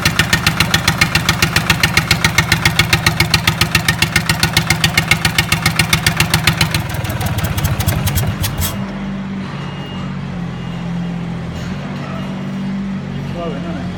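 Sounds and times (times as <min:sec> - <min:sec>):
diesel engine running: 0:00.0 - 0:11.5.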